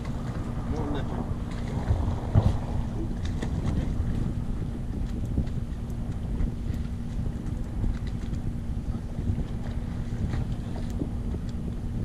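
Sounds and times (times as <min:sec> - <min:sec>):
boat engine hum: 0:00.0 - 0:12.0
wind buffeting microphone: 0:00.0 - 0:12.0.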